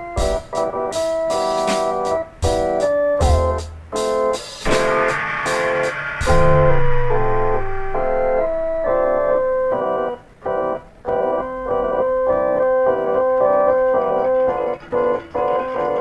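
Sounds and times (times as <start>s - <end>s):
organ-like keyboard music: 0.0s - 16.0s.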